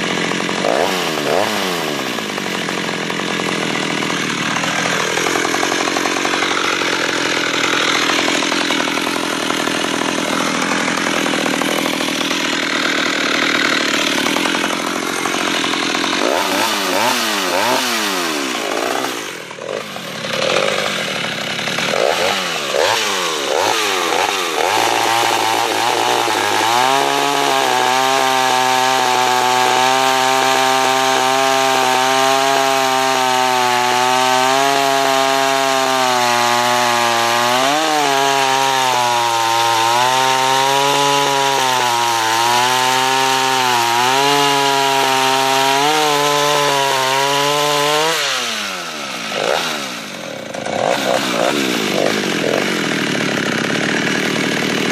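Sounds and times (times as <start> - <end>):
chainsaw cutting through log: 0.0 - 54.9.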